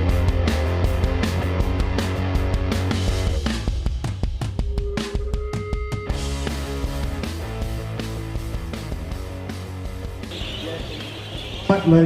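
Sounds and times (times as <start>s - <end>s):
instrumental music with guitar: 0.0s - 10.3s.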